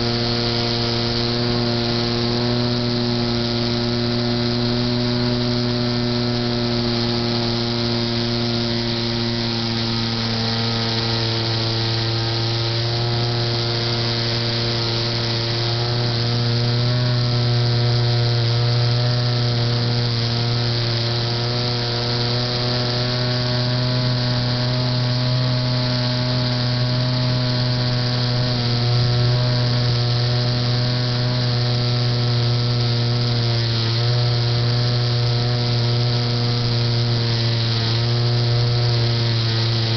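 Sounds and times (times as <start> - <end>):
model airplane motor buzzing: 0.0 - 39.9.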